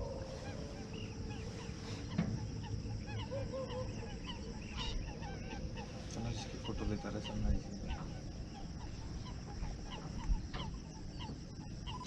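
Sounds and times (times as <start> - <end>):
water birds calling: 0.0 - 12.0.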